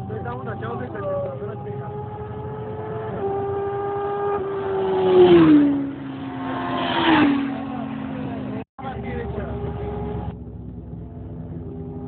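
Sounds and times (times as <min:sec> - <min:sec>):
motorcycles passing at speed: 0:00.0 - 0:10.4.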